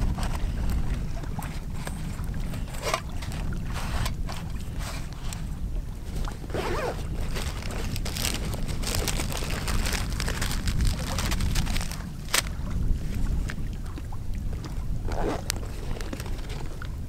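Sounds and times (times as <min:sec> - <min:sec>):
rustling of camp gear and packets: 0:00.0 - 0:13.4, 0:15.1 - 0:17.0
wind buffeting microphone: 0:00.0 - 0:17.0.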